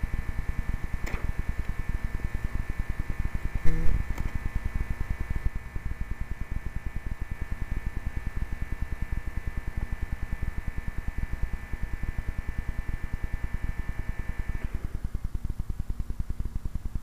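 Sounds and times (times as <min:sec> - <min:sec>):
faint high whine: 0:00.0 - 0:15.9.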